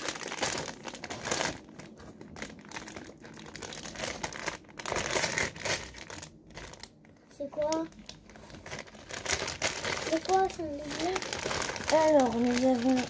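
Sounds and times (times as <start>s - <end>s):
packet crinkling and rustling: 0.0s - 13.0s.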